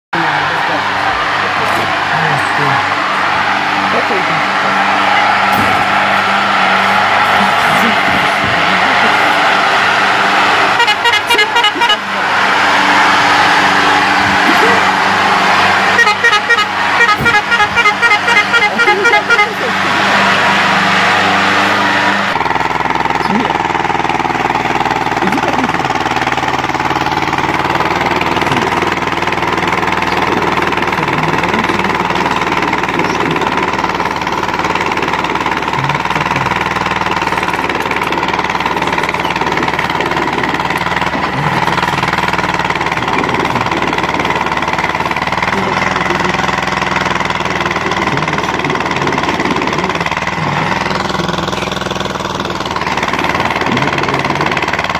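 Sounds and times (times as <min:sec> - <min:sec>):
tractor diesel engine running: 0:00.1 - 0:54.9.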